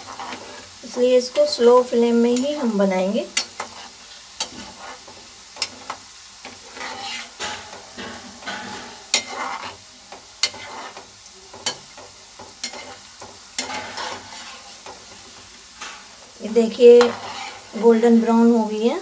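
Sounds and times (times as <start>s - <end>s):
frying in oil sizzling: 0.0s - 19.0s.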